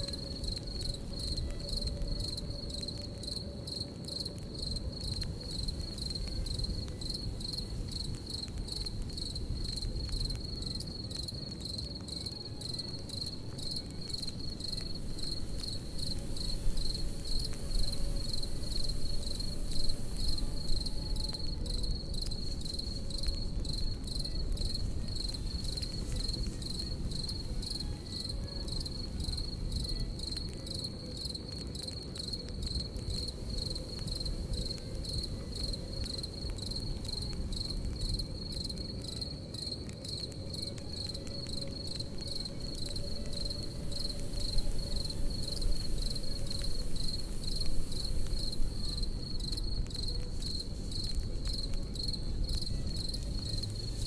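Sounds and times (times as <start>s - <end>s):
campfire crackling: 0.0s - 54.0s
crickets chirping: 0.0s - 54.0s.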